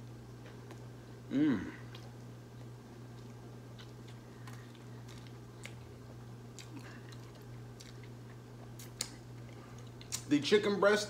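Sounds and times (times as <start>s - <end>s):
man chewing food: 0.0s - 10.3s
steady low hum: 0.0s - 11.0s.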